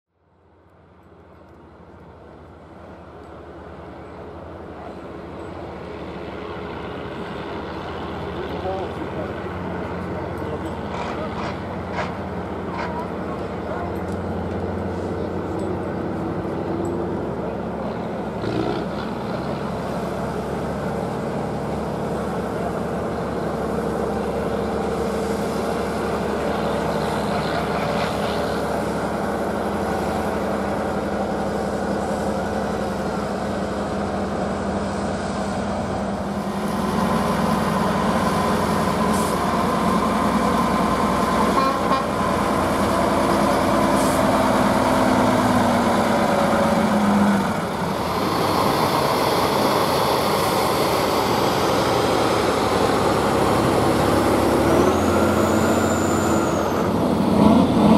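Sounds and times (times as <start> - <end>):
truck engine running: 0.3 - 57.9.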